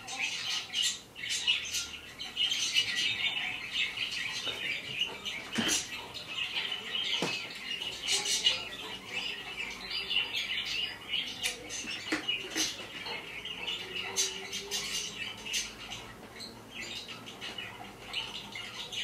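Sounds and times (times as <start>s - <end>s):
parrots squawking: 0.0s - 19.0s.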